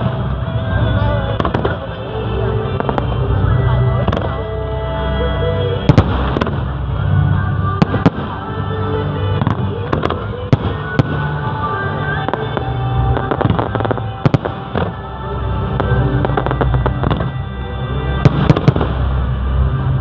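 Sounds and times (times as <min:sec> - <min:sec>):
fireworks bangs and crackles: 0:00.0 - 0:04.4, 0:05.8 - 0:20.0
music playing: 0:00.0 - 0:20.0.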